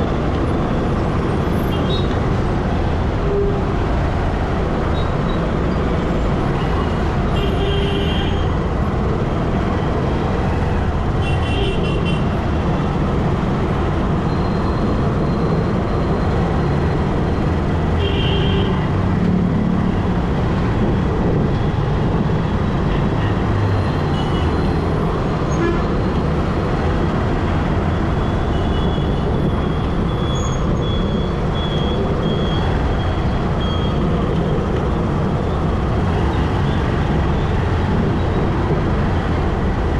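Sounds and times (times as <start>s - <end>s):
rushing road noise: 0.0s - 39.9s.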